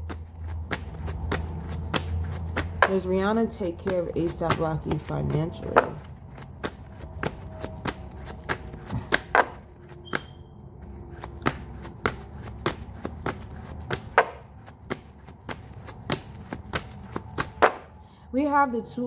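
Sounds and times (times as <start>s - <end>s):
cards being shuffled: 0.0s - 3.0s, 3.6s - 17.9s.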